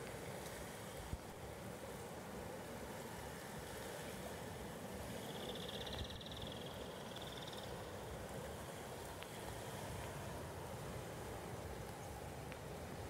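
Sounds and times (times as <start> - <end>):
river rushing in flood: 0.0 - 13.0.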